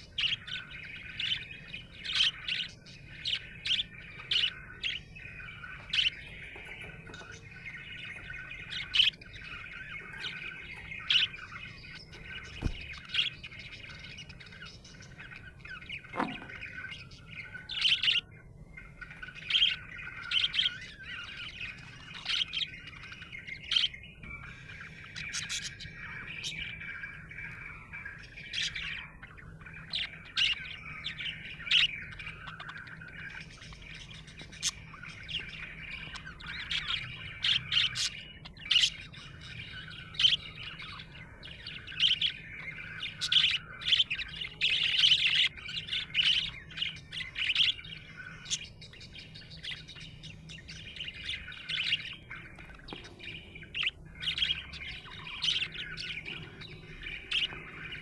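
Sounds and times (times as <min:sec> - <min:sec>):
budgerigar chirping and warbling: 0:00.0 - 0:58.0
sharp bird calls: 0:00.0 - 0:58.0.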